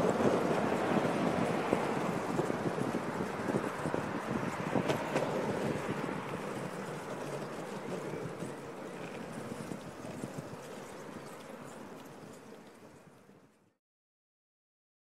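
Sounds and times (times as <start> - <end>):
skateboard wheels rolling over planks: 0.0 - 12.9.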